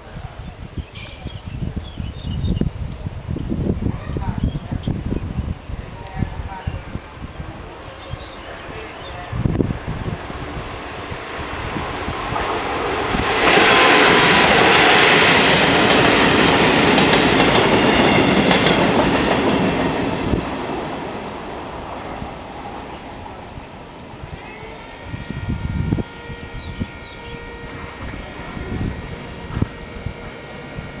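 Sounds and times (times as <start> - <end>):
train wheels on rails: 5.0 - 31.0.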